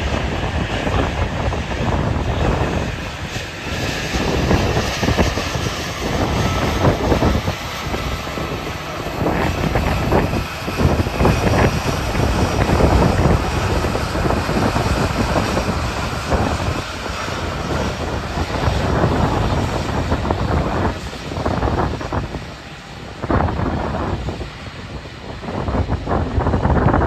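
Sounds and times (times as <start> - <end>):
jet engines rumbling: 0.0 - 27.0
wind buffeting microphone: 0.0 - 27.0.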